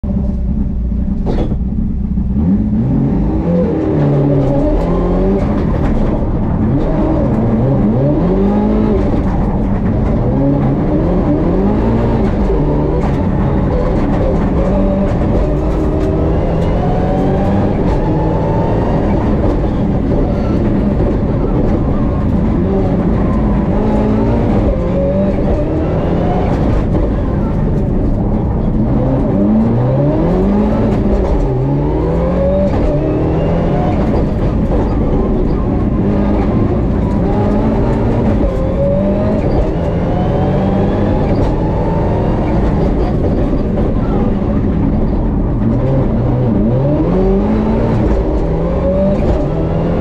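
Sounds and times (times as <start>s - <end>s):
car engine revving hard: 2.2s - 50.0s.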